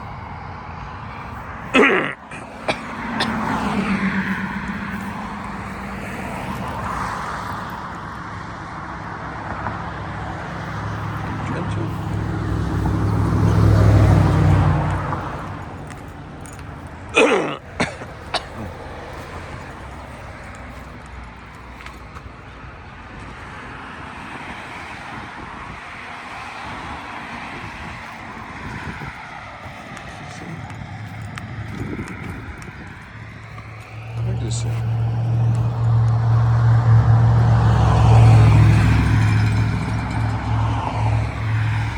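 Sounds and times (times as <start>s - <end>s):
passing vehicle engine hum: 0.0s - 41.9s.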